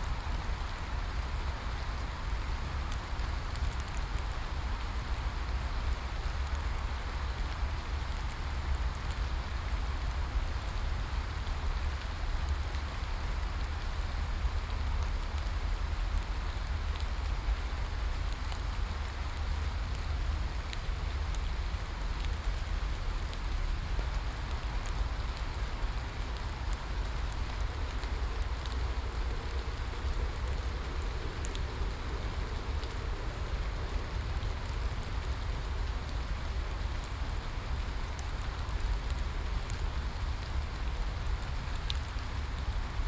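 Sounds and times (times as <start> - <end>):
constant low rumble: 0.0 - 43.0
rain drop ticks: 0.0 - 43.0
steady rain hiss: 0.0 - 43.0.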